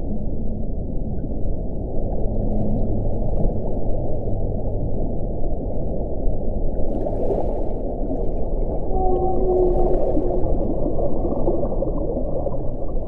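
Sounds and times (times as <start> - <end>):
low moaning wind: 0.0 - 13.0.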